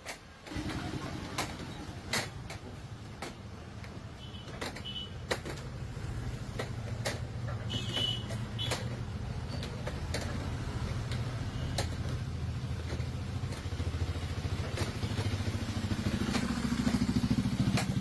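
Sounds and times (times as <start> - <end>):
sharp knocks and clanks: 0.0 - 18.0.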